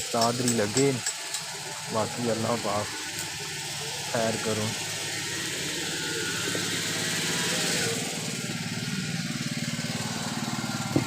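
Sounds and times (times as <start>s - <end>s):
small generator engine running: 0.0s - 11.0s.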